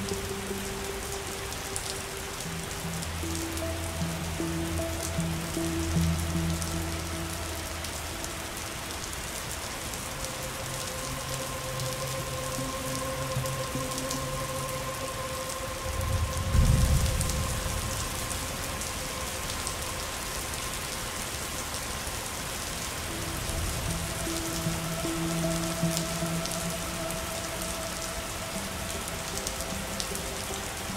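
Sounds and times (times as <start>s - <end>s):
soft held music tones: 0.0s - 30.9s
steady rain falling: 0.0s - 30.9s.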